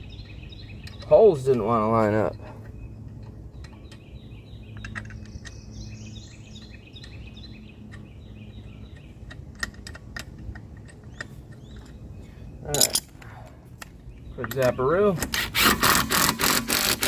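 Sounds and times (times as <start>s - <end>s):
songbird singing: 0.0s - 16.2s
steady low hum: 0.0s - 16.7s.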